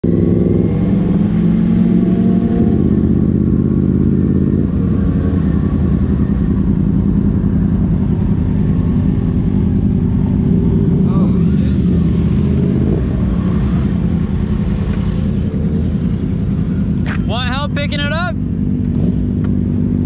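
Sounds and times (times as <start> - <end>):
motorcycle ahead: 0.0 - 20.0
motorcycle engine running: 0.0 - 20.0.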